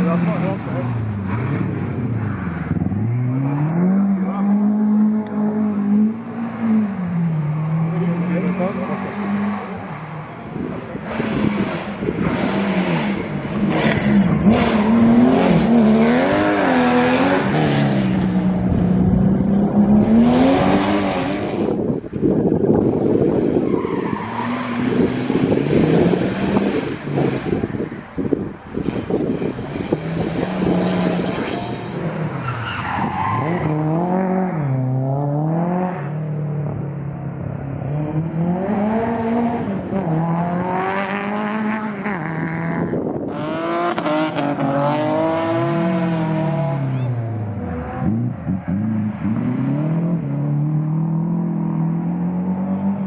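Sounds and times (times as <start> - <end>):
rally car engine revving: 0.0 - 53.0
tyres skidding: 0.0 - 53.0.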